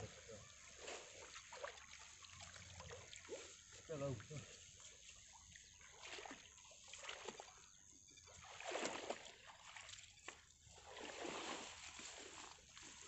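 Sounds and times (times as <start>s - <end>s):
pond water splashing: 0.0s - 13.0s.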